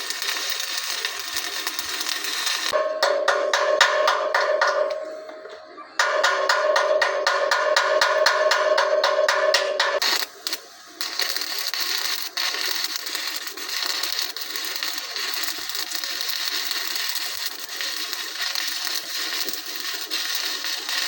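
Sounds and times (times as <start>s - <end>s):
welding arc crackling: 0.0s - 4.8s, 6.0s - 21.0s.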